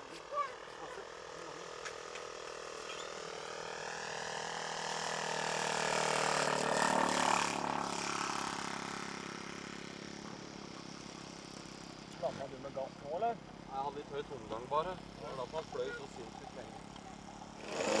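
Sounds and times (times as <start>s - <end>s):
model airplane engine flyby: 0.0s - 13.3s, 14.9s - 18.0s.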